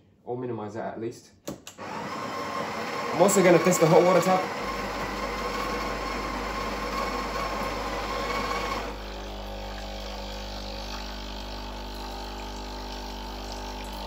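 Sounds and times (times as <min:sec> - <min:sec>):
pump humming: 0:01.8 - 0:14.0.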